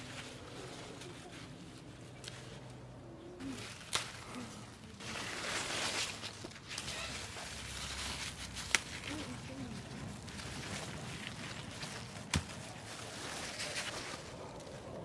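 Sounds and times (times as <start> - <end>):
leaves and vines rustling: 0.0 - 15.0.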